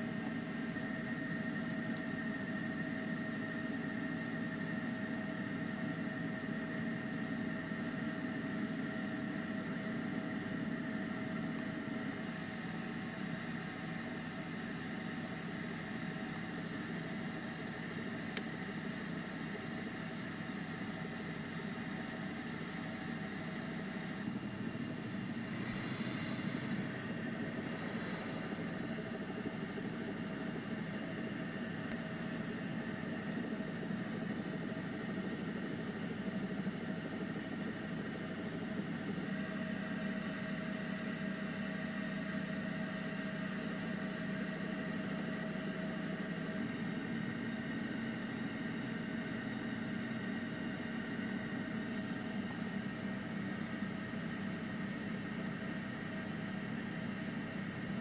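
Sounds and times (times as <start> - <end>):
faint whine: 0.0 - 57.6
mechanical drone with low hum: 0.0 - 58.0.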